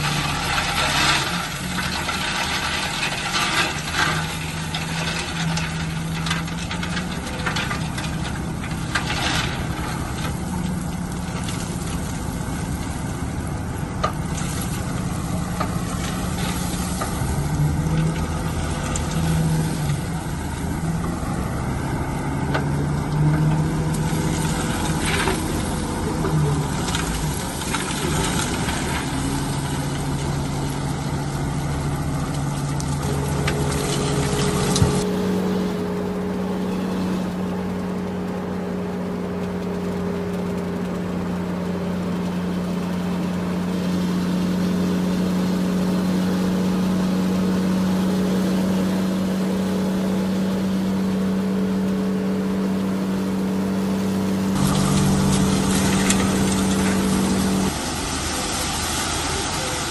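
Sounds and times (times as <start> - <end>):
engine droning: 0.0 - 59.9
heavy machinery engines running: 0.0 - 59.9.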